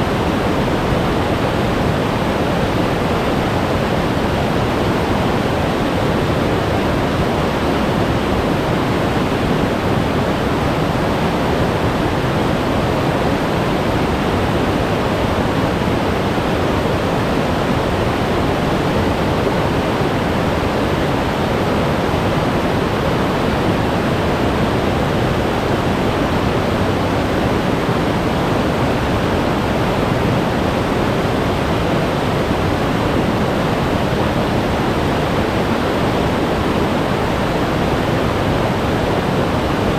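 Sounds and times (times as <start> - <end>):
stream rushing over rocks: 0.1 - 39.9.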